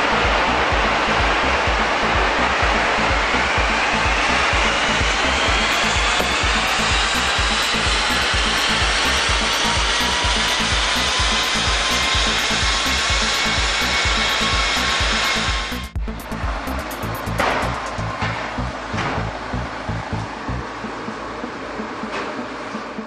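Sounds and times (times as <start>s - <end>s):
diesel engine revving under load: 0.0s - 22.0s.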